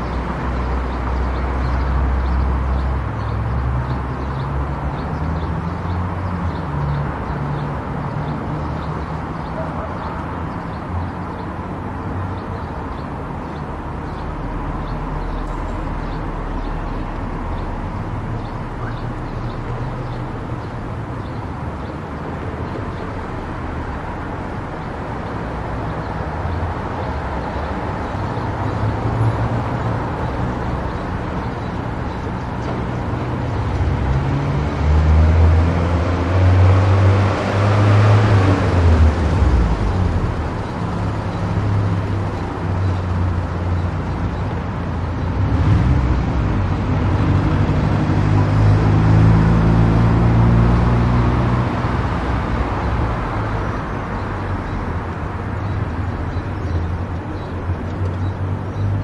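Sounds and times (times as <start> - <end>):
car driving on highway: 0.0 - 59.0.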